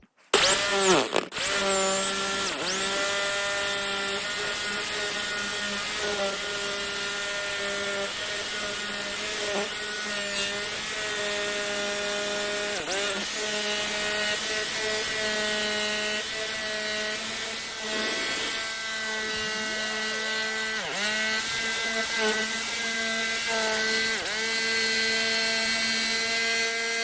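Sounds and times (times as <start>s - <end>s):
jigsaw cutting wood: 0.3s - 27.0s.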